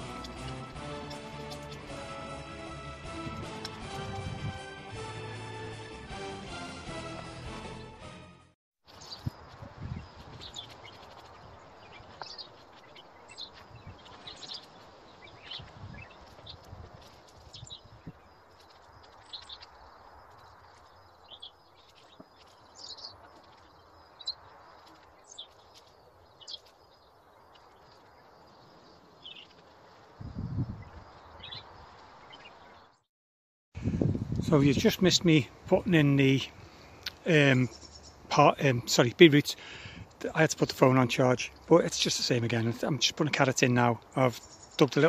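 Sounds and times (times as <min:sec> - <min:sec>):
small birds chirping: 0:00.0 - 0:02.0, 0:08.9 - 0:33.0, 0:34.8 - 0:45.0.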